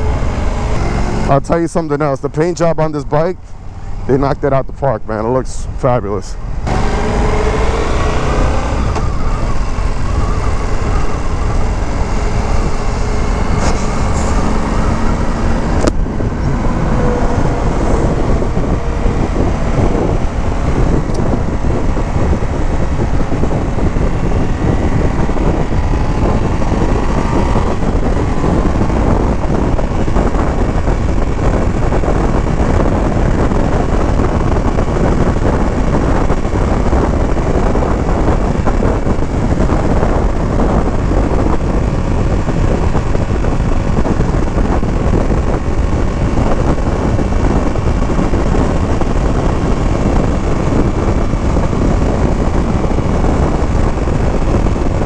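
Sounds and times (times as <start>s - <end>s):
motorcycle engine cruising: 0.0s - 2.4s, 6.4s - 55.0s
wind rush: 0.0s - 55.0s.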